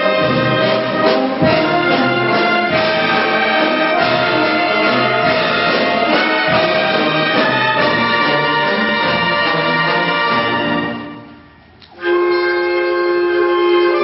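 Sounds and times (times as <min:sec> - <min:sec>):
concert band playing: 0:00.0 - 0:14.0.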